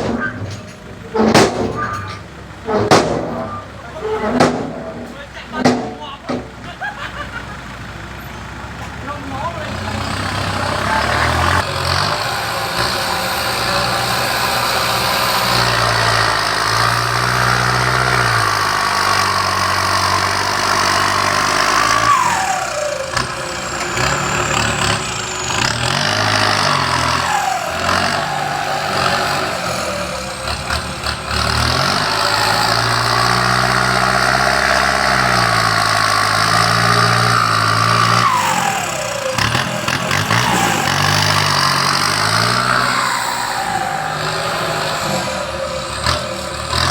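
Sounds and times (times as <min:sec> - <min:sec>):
heavy machine engines running: 0:00.0 - 0:46.9.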